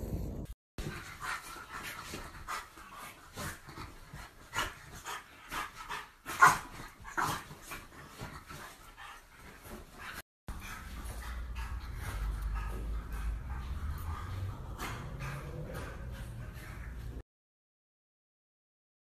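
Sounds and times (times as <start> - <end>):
dog panting and huffing: 0.8 - 17.2.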